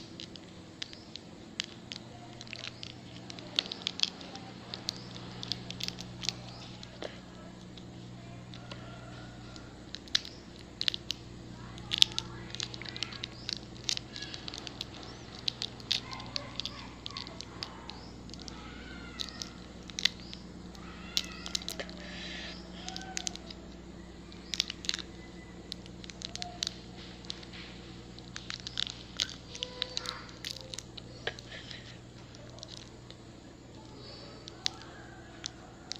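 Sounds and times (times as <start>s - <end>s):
crunchy chewing: 0.0s - 35.9s
plastic wrapper crinkling: 0.0s - 35.9s
steady low hum: 0.0s - 35.9s.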